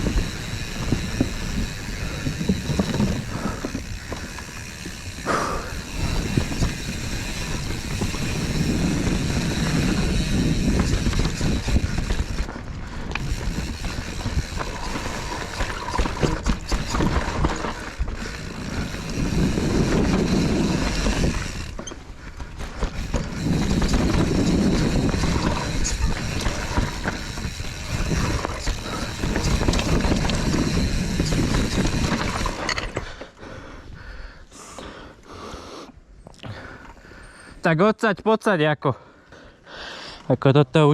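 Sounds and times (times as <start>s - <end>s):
bike tyres rumbling on dirt: 0.0s - 33.8s
bike rattling and clicking: 0.0s - 33.9s.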